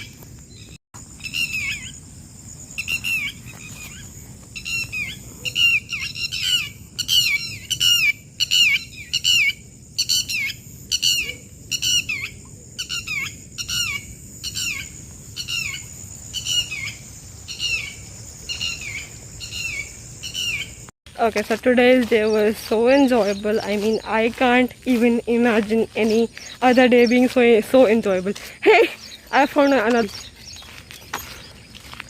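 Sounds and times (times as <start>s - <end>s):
bird chirping: 0.0s - 2.0s, 2.8s - 32.0s.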